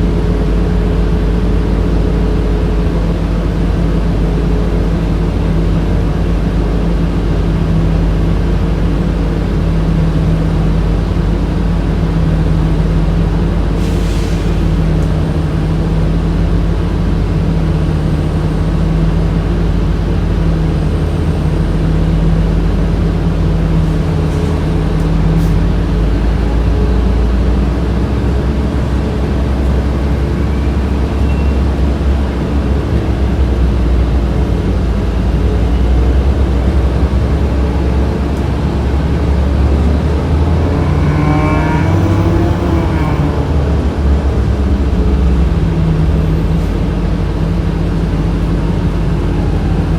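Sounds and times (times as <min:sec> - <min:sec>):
bus engine drone: 0:00.0 - 0:49.9
road rumble: 0:00.0 - 0:49.9.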